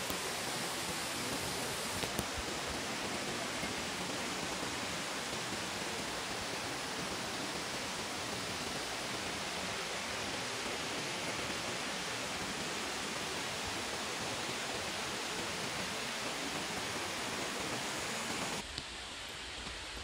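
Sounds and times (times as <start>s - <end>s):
stream water rushing: 0.0s - 19.7s.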